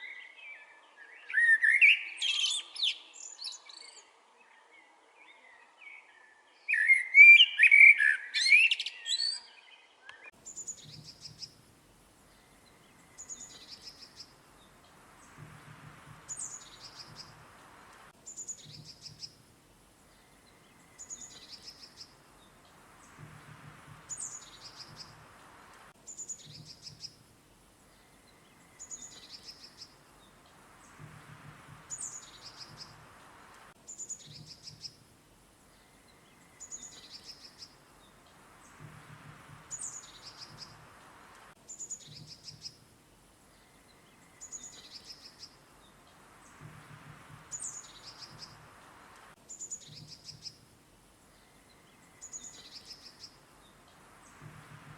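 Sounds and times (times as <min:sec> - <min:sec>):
songbirds chirping: 0:00.0 - 0:54.9
soft hiss: 0:09.2 - 0:54.9.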